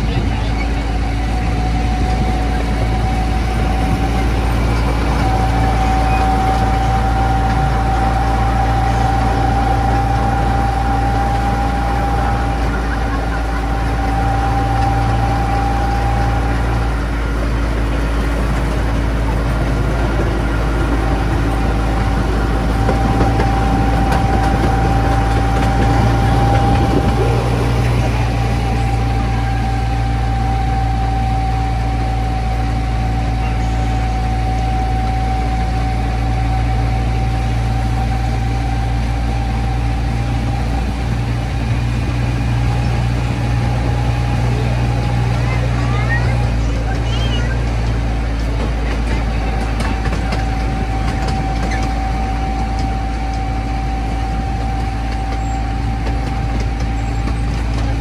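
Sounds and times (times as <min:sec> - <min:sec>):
low engine hum: 0:00.0 - 0:58.0
steady high whine: 0:00.0 - 0:58.0.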